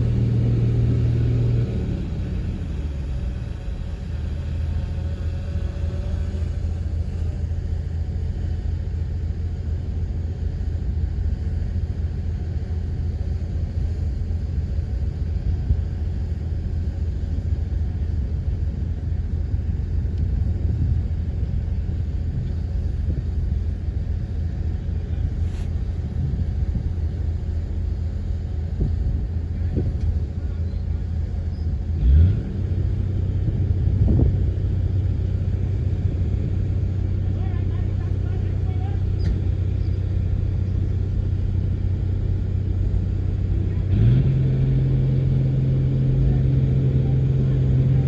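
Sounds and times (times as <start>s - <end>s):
bulldozer diesel engine rumbling: 0.0s - 48.0s.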